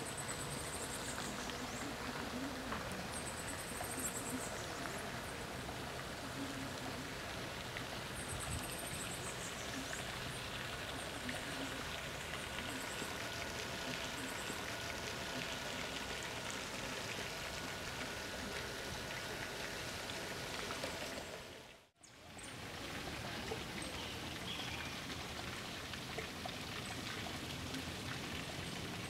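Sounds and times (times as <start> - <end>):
steady rushing water: 0.0 - 29.0.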